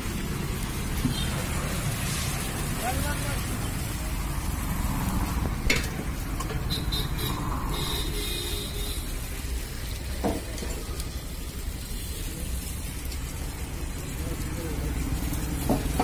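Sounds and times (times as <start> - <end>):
batter sizzling in a pan: 0.0 - 16.0.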